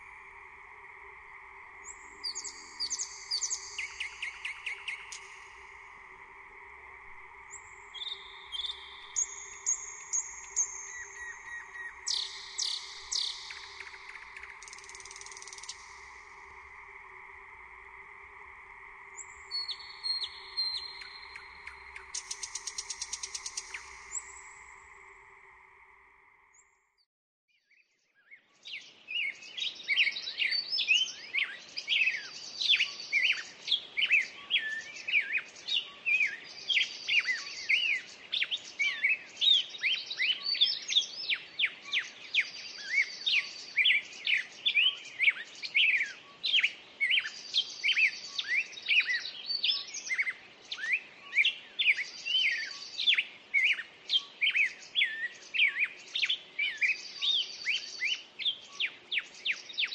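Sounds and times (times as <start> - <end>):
songbirds chirping: 0.0 - 26.9, 27.5 - 59.9.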